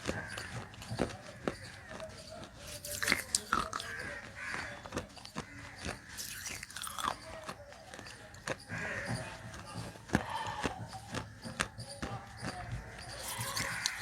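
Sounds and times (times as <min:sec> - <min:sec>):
clay being bitten and chewed: 0:00.0 - 0:14.0.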